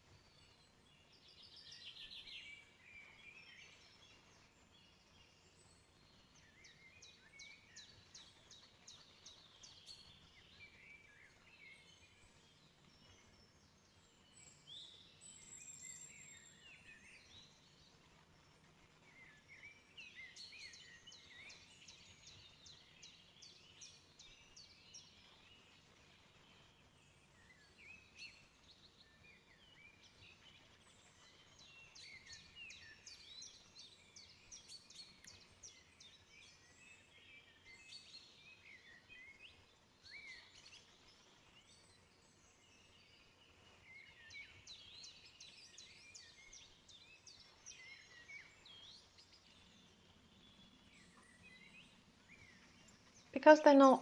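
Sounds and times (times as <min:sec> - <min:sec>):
faint birdsong: 0:00.0 - 0:54.0
low steady hiss: 0:00.0 - 0:54.0.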